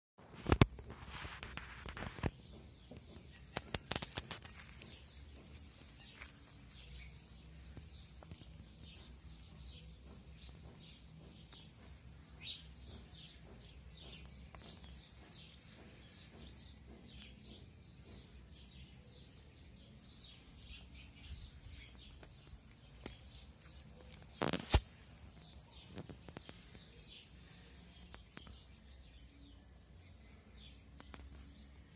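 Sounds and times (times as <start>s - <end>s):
small bird chirping: 0.4s - 31.9s.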